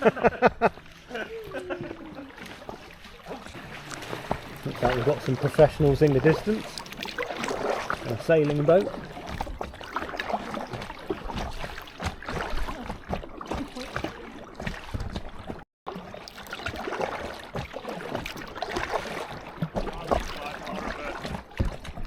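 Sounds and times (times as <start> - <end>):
water splashing around kayak: 0.0 - 22.0.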